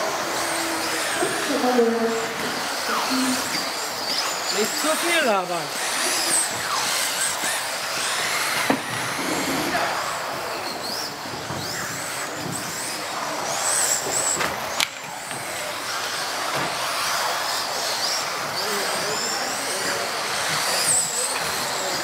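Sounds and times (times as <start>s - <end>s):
rc car motors whining: 0.0s - 22.0s.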